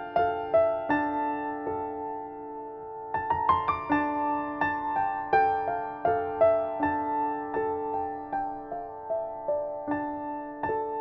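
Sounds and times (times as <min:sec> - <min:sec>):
piano-like keyboard notes: 0:00.0 - 0:11.0.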